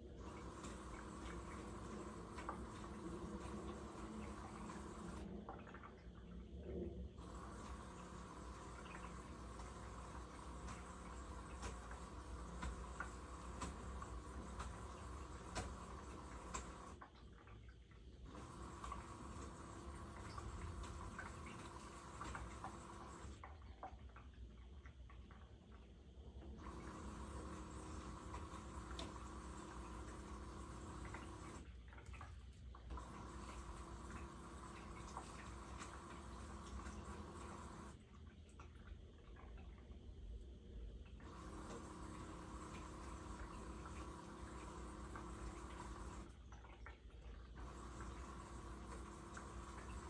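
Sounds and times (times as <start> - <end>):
washing machine hissing: 0.0 - 23.9, 25.3 - 39.6, 40.4 - 50.0
water sloshing in drum: 0.0 - 40.1, 41.0 - 50.0
washing machine hum: 0.0 - 50.0
washing machine ticking: 0.1 - 6.0, 7.2 - 25.8, 26.4 - 39.8, 41.0 - 50.0.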